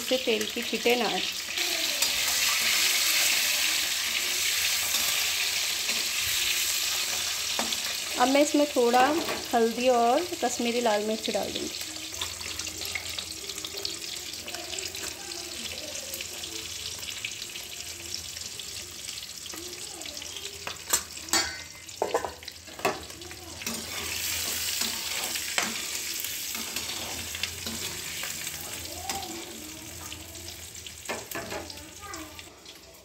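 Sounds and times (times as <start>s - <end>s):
hot oil sizzling: 0.0s - 33.0s.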